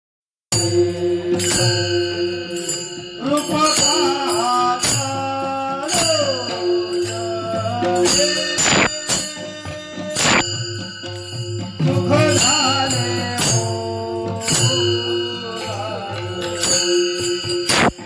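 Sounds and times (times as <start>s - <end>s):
person singing: 0.5s - 10.6s, 11.8s - 18.0s
hand cymbals clashing: 0.5s - 18.0s.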